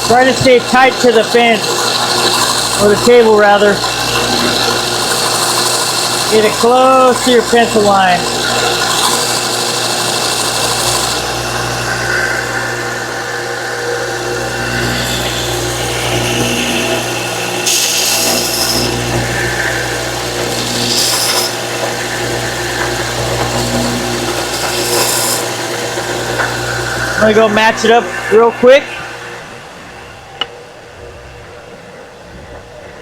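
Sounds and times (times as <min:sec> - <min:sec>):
wood rasping on sanding belt: 0:00.0 - 0:13.0, 0:14.1 - 0:28.8
belt sander motor hum: 0:00.0 - 0:33.0.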